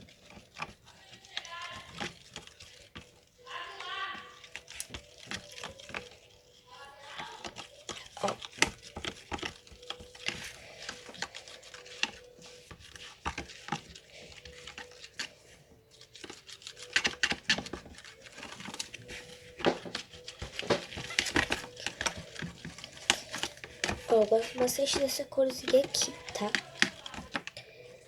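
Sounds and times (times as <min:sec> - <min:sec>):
spoon stirring slime: 0:00.0 - 0:28.0.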